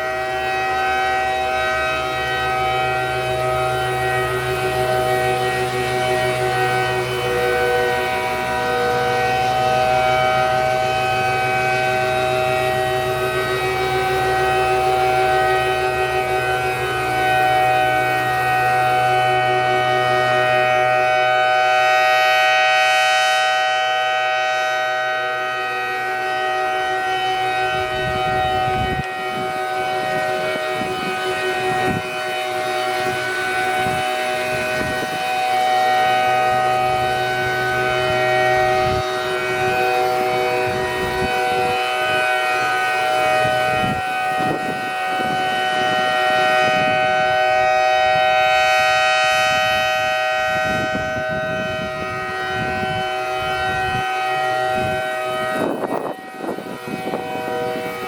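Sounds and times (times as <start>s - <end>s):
warning siren chord: 0.0s - 58.0s.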